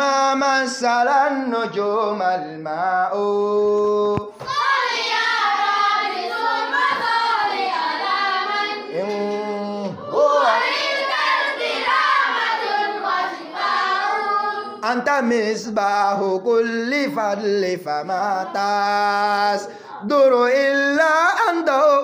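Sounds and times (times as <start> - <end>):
group of voices singing: 3.1 - 22.0.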